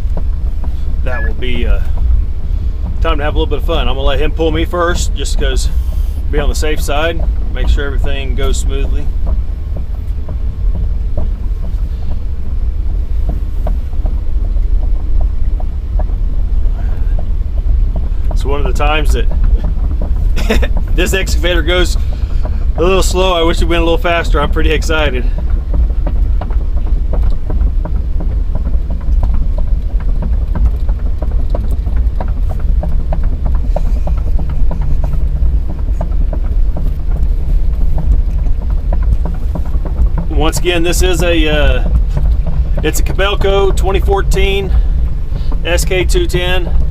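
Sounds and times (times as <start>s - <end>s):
excavator diesel engine running: 0.0s - 46.9s
wind buffeting microphone: 0.0s - 46.9s.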